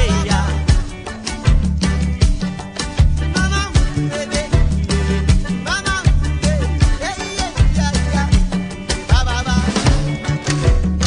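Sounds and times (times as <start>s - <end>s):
bass line: 0.0s - 11.0s
bending lead melody: 0.0s - 11.0s
drum beat: 0.0s - 11.0s.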